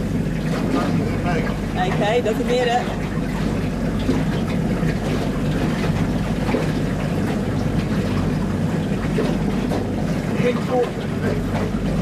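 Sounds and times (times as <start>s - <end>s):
outboard motor running: 0.0s - 12.0s
water rushing along hull: 0.0s - 12.0s.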